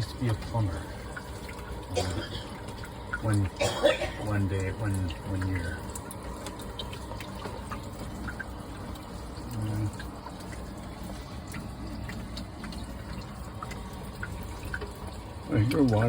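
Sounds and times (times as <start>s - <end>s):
water dripping: 0.0s - 16.0s
water trickling from faucet: 0.0s - 16.0s.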